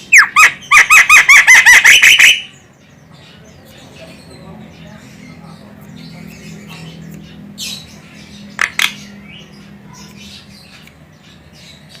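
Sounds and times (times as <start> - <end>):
bird chattering notes: 0.0 - 12.0.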